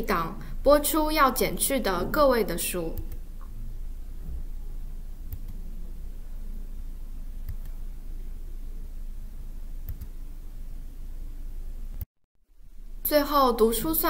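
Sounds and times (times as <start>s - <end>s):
room tone hum and hiss: 0.0s - 14.0s.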